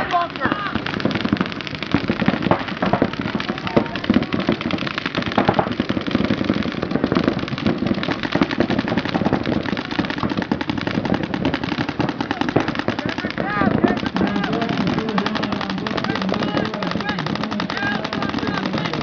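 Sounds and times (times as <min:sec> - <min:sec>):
paintball markers firing: 0:00.0 - 0:19.0.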